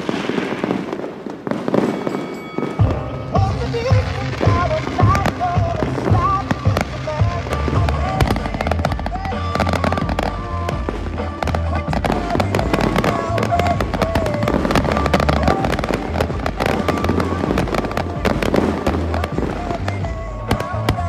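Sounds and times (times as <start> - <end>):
fireworks bangs and crackles: 0.0 - 21.0
music with bass line: 2.8 - 21.0.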